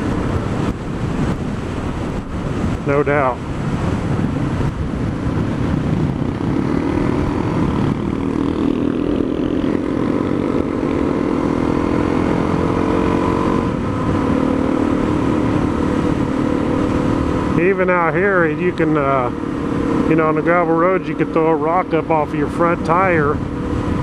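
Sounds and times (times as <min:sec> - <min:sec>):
motorcycle engine running: 0:00.0 - 0:24.0
wind rush on microphone: 0:00.0 - 0:24.0.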